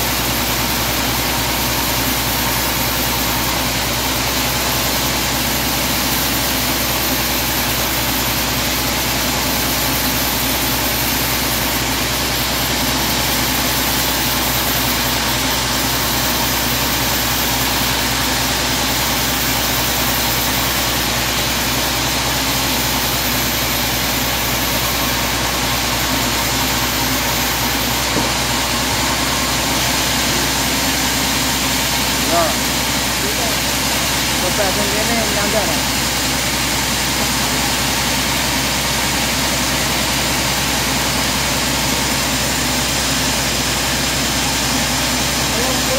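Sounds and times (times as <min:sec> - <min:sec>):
band sawmill humming: 0:00.0 - 0:45.9.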